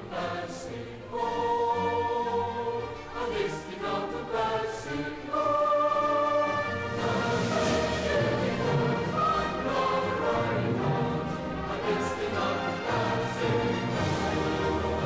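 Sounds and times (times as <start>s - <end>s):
choir singing long notes: 0.0s - 15.0s.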